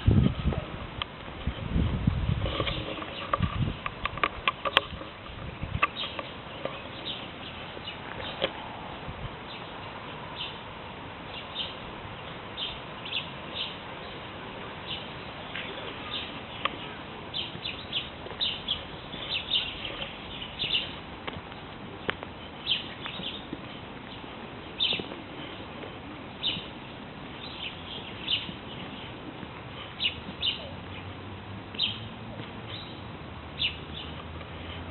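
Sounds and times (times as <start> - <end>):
steady background hiss: 0.0 - 34.9
woodland birds chirping: 2.5 - 34.9.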